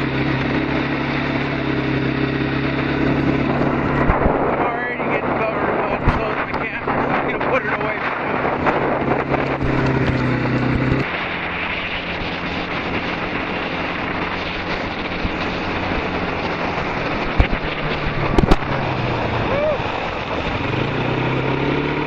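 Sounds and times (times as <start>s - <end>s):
atv engine running: 0.0s - 22.0s
wind buffeting microphone: 0.0s - 22.0s.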